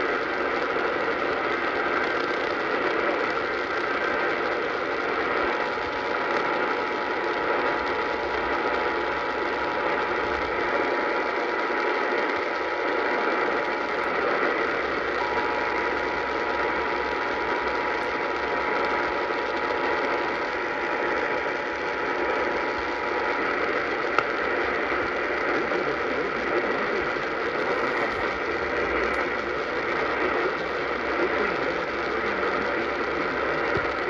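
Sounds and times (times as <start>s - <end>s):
faint steady tones: 0.0s - 34.0s
radio static and hiss: 0.0s - 34.0s.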